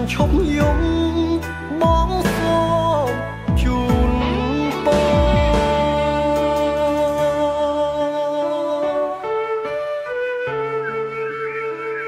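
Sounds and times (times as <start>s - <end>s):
slow pop ballad instrumental: 0.0s - 12.0s.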